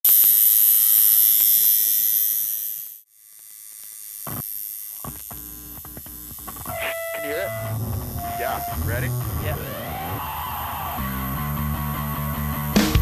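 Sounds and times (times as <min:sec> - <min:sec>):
tattoo machine buzzing: 0:00.0 - 0:13.0.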